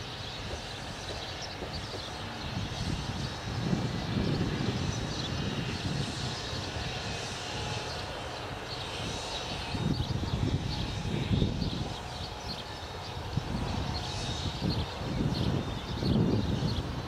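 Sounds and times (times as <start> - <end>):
low rumbling outdoor noise: 0.0 - 17.0.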